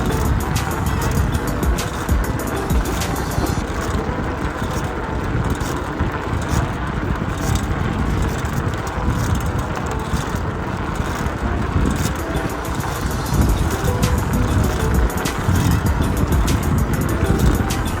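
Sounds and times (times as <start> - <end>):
rolling noise: 0.0 - 18.0
wind rumble on microphone: 0.0 - 18.0.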